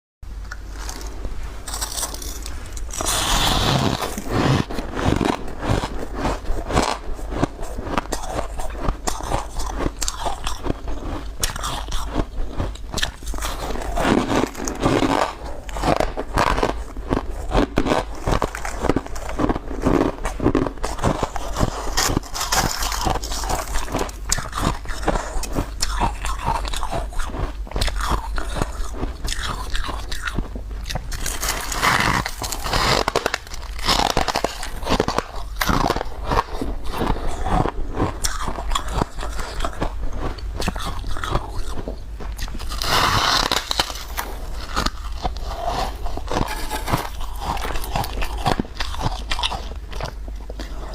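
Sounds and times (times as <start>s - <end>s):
shaved ice crunching when chewed: 0.5s - 50.9s.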